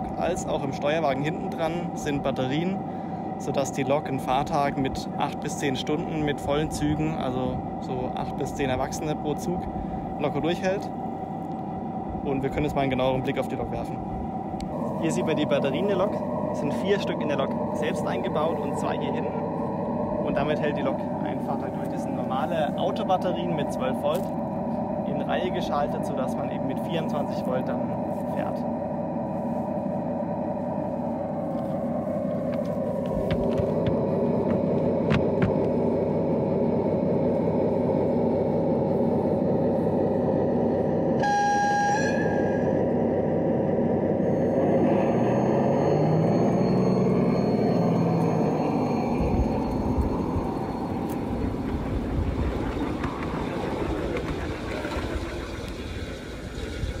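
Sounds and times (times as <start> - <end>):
simulated diesel engine idling: 0.0 - 57.0
train wagons rumbling over track: 0.0 - 57.0.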